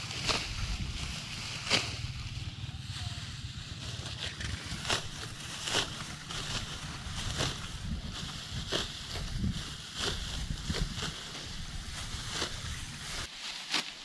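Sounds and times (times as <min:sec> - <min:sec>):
sickle cutting rice stalks: 0:00.0 - 0:14.0
wind rumble on microphone: 0:00.1 - 0:02.8, 0:03.4 - 0:13.3.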